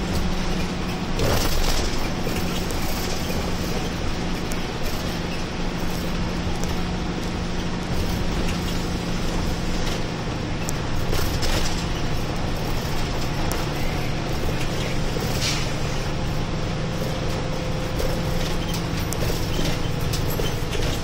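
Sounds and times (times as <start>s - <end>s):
bus engine running: 0.0s - 21.0s
tyre noise on wet road: 0.0s - 21.0s.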